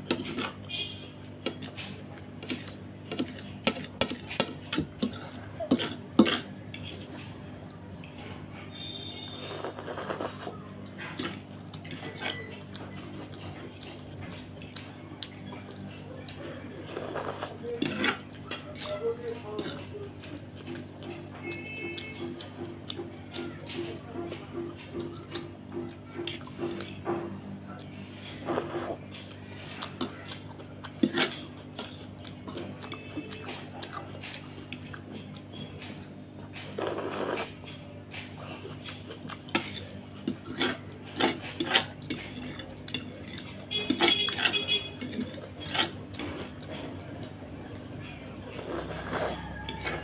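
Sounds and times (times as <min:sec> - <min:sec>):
close-up chewing: 0:00.0 - 0:50.0
fork scraping a plate: 0:00.1 - 0:07.4, 0:08.0 - 0:14.8, 0:16.8 - 0:24.0, 0:28.0 - 0:47.0, 0:48.0 - 0:50.0.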